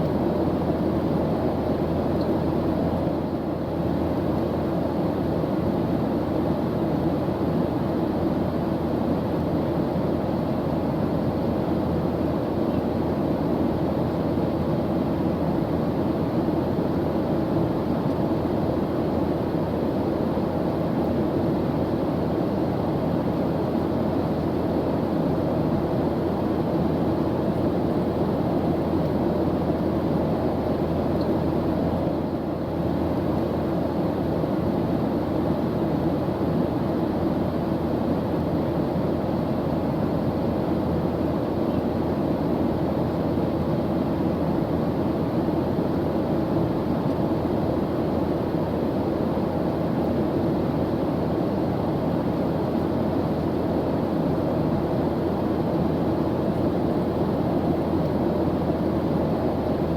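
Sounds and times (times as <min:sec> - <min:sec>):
airplane engine drone in cabin: 0:00.0 - 0:59.9
faint steady hum: 0:00.0 - 0:59.9.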